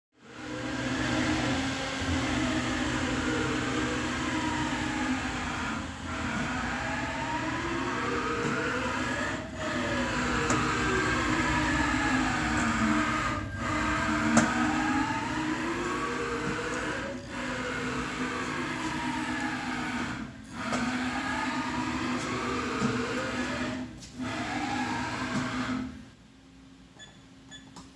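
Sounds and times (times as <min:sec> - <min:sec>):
servo motor whine: 0:00.3 - 0:26.0.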